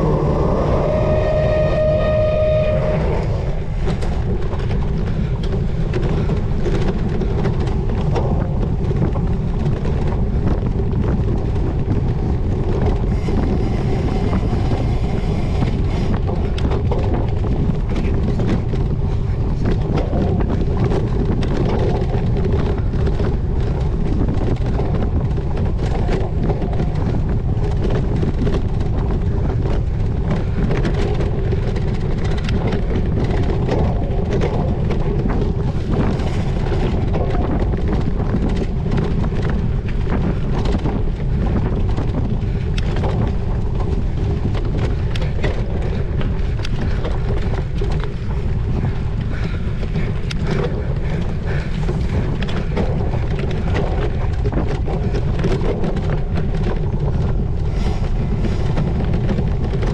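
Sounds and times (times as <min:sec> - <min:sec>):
bike rattling over rough ground: 0:00.0 - 0:59.9
wind buffeting microphone: 0:00.0 - 0:59.9.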